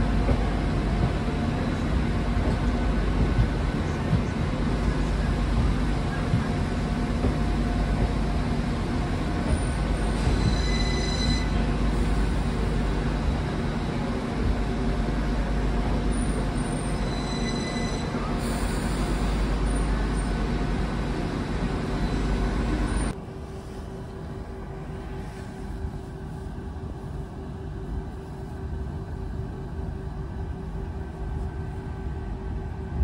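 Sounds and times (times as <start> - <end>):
train rumbling past: 0.0 - 33.0.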